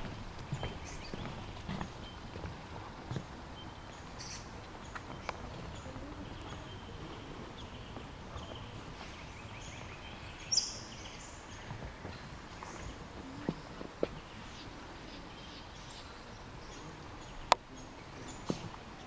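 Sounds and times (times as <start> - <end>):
footsteps on walkway: 0.0 - 15.1, 17.5 - 19.0
faint bird calls: 0.4 - 19.0.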